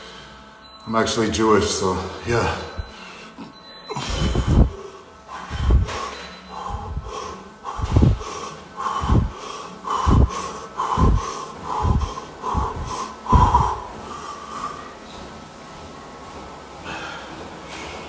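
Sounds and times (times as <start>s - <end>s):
man breathing hard: 0.0s - 0.6s, 2.3s - 15.1s, 16.8s - 18.0s.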